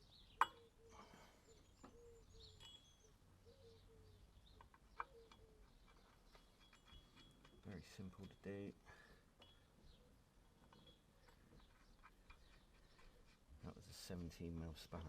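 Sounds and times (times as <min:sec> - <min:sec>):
birds calling faintly: 0:00.0 - 0:15.0.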